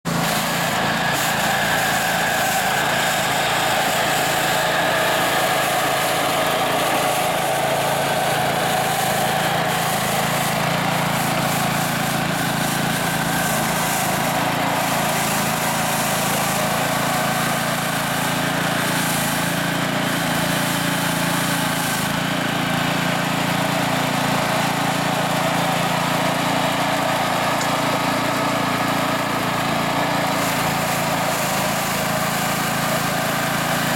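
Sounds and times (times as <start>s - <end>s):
small engine running: 0.0s - 33.9s
brush sweeping paving: 0.1s - 33.9s.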